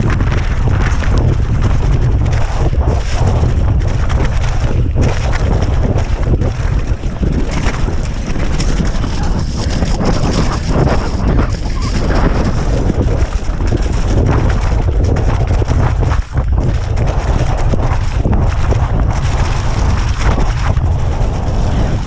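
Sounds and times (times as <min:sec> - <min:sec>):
bike rattling over rough ground: 0:00.0 - 0:22.0
wind buffeting microphone: 0:00.0 - 0:22.0.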